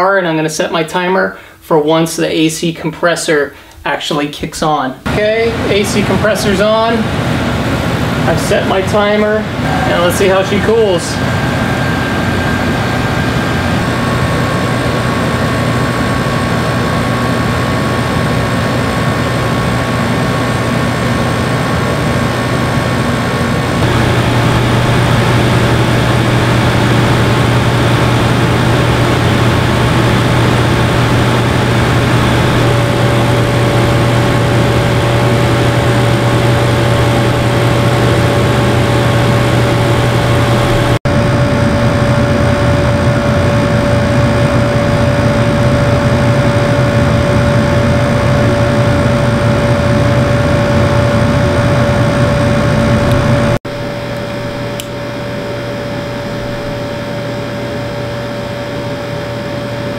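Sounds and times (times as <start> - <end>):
air conditioner compressor hum: 0.0 - 59.9
air conditioner fan rushing: 0.0 - 59.9.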